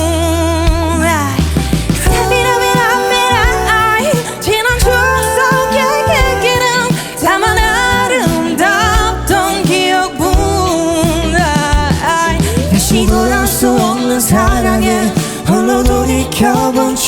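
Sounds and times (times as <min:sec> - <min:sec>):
pop ballad with band: 0:00.0 - 0:17.0
voices singing long notes: 0:01.8 - 0:17.0.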